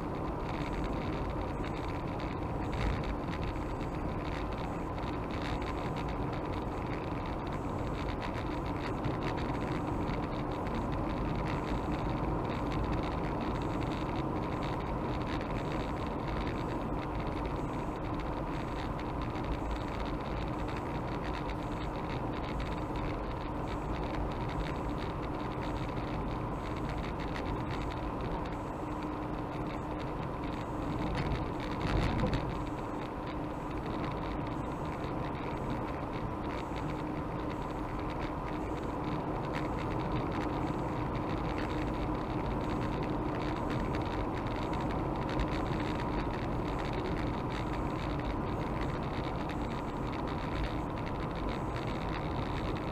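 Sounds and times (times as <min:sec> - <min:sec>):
car tyre and engine noise: 0:00.0 - 0:52.9
faint steady hum: 0:00.0 - 0:52.9.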